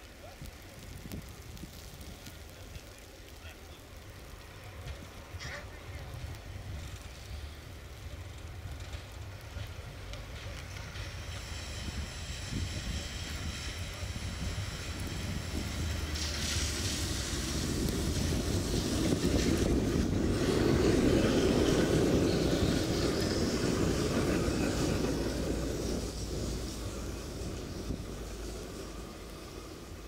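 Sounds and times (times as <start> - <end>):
electric tram passing: 0.0 - 30.0
wheels on rail: 0.0 - 30.0.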